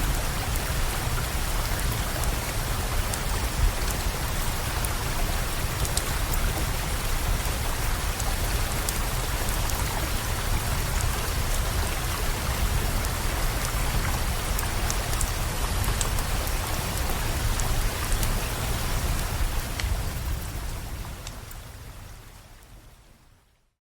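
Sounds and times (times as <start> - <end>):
steady rain: 0.0 - 23.8
campfire crackling: 1.7 - 21.8.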